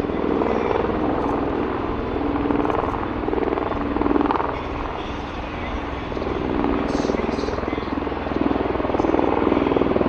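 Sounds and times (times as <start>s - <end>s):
rapid pulsing rotor beat: 0.0s - 10.0s.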